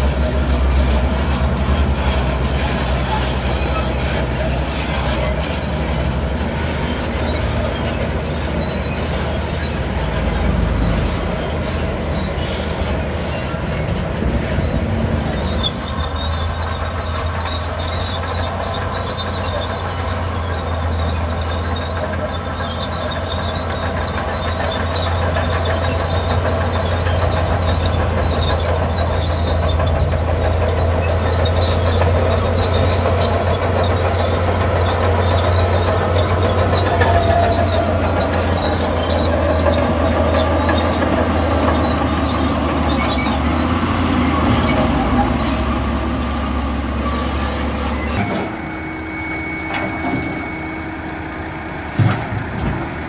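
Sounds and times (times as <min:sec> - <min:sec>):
bulldozer diesel engine droning: 0:00.0 - 0:53.0
steel tracks squeaking: 0:00.0 - 0:53.0.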